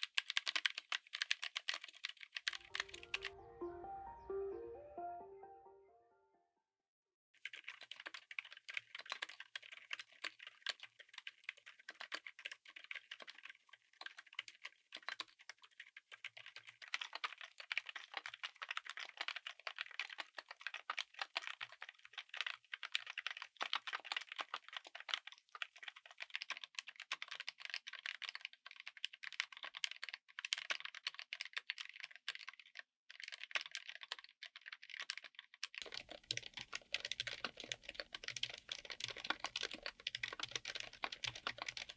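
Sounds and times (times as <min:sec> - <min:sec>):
fast typing on a keyboard: 0:00.0 - 0:03.3, 0:07.4 - 0:41.9.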